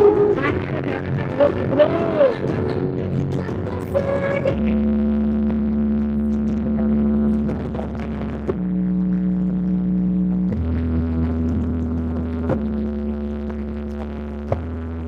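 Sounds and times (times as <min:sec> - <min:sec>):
loud electronic dance music: 0:00.0 - 0:15.0.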